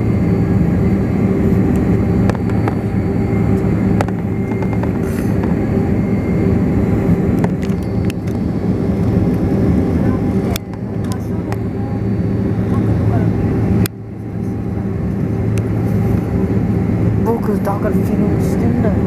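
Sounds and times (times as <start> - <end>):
jet engines humming in cabin: 0.0 - 19.0.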